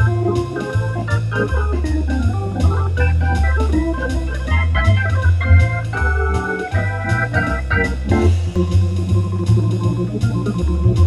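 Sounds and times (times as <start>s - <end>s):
organ music: 0.0s - 11.0s.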